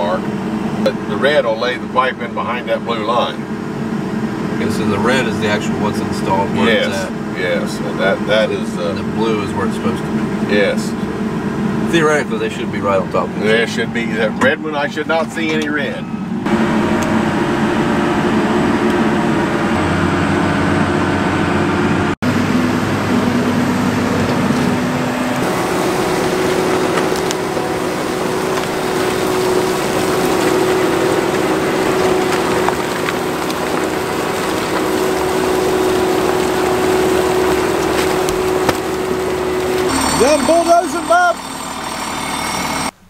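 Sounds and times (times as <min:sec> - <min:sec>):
tractor engine under heavy load: 0:00.0 - 0:43.0.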